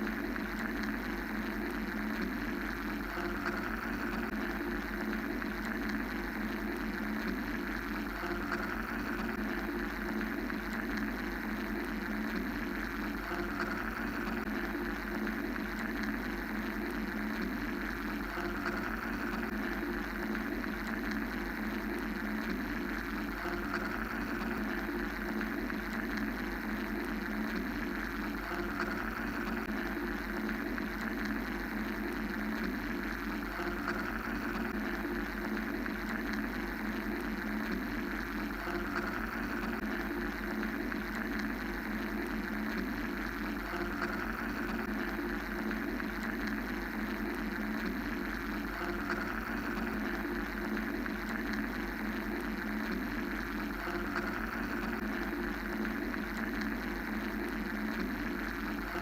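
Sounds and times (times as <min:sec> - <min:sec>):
machine hum and hiss drone: 0:00.0 - 0:59.0.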